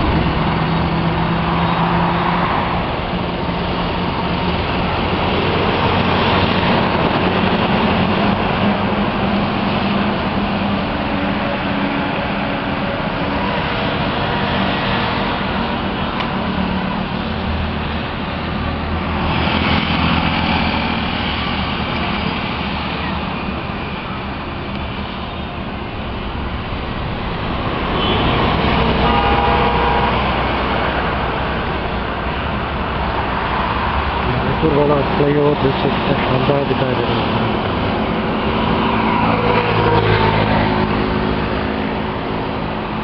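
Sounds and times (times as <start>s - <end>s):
highway traffic rumble: 0.0s - 43.0s.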